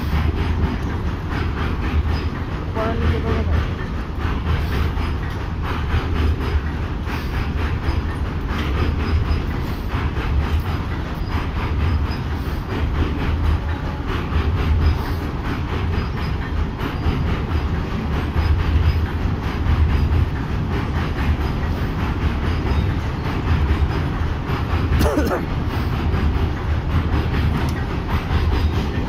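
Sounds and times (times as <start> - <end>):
trains rumbling past: 0.0 - 29.0
wheels clicking over rail joints: 0.0 - 29.0.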